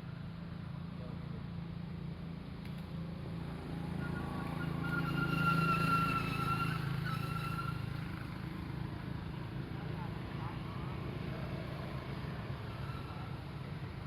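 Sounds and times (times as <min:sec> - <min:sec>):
high vehicle whine passing: 0:01.6 - 0:14.0.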